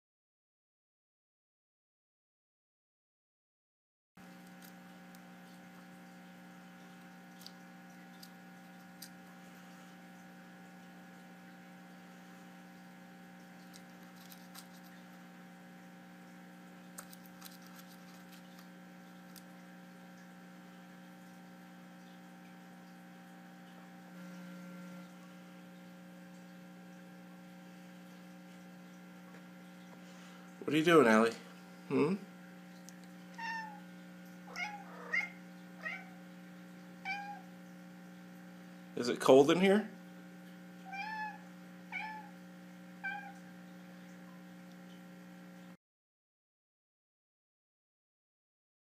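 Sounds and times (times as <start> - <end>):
low electrical hum: 4.2 - 45.8.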